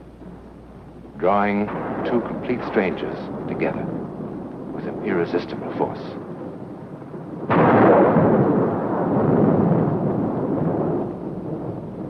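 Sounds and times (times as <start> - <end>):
thunder crack and rolling rumble: 0.0 - 12.0.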